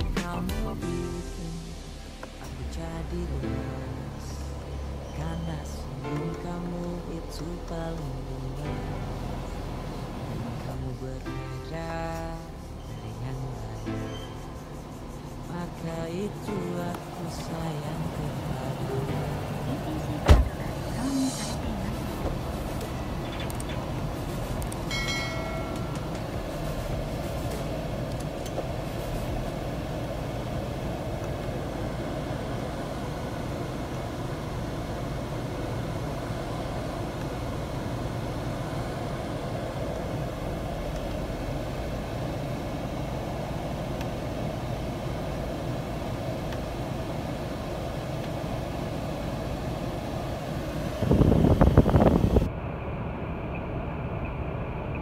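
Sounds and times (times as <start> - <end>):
car cabin engine hum: 0.0 - 55.0
loud rumbling noise: 0.0 - 55.0.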